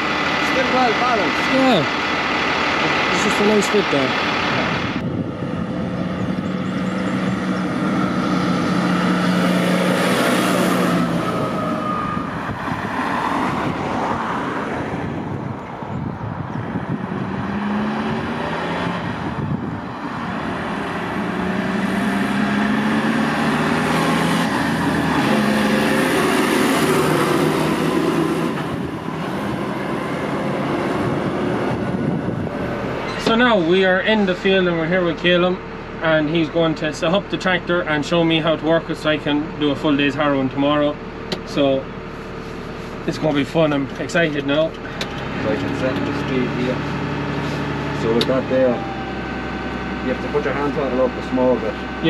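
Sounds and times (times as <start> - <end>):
tractor diesel engine accelerating: 0.0 - 52.0.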